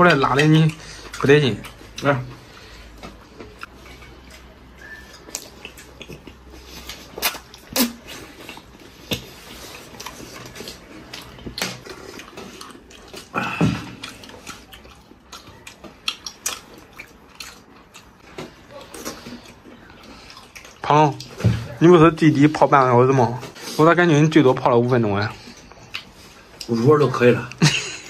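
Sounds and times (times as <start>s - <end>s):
wet chewing and lip-smacking: 0.0s - 23.7s, 24.7s - 28.0s.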